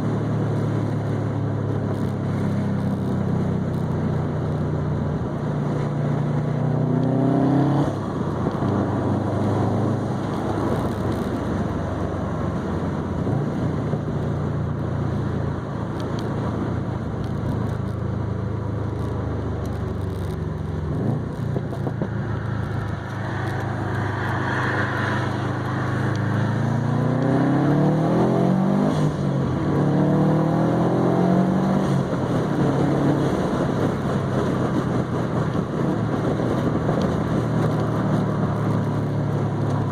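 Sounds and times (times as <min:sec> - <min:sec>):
car exhaust engine accelerating: 0:00.0 - 0:39.9.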